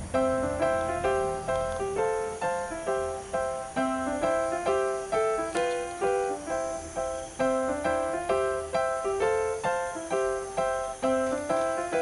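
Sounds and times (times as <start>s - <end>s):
light bouncy background melody: 0.0s - 12.0s.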